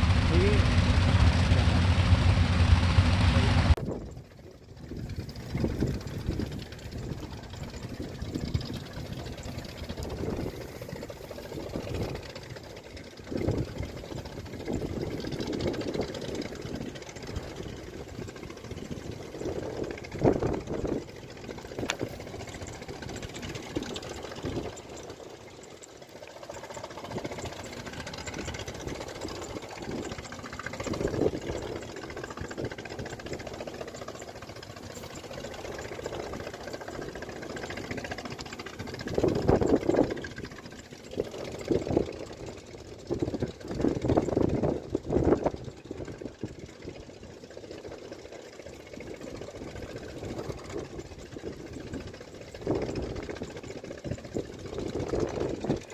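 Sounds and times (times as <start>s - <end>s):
heavy diesel engines running: 0.0s - 55.9s.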